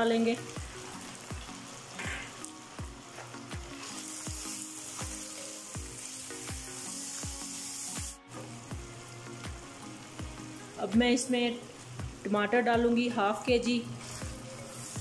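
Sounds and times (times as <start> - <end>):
background music with steady beat: 0.0 - 15.0
meat sizzling in hot oil: 0.0 - 15.0.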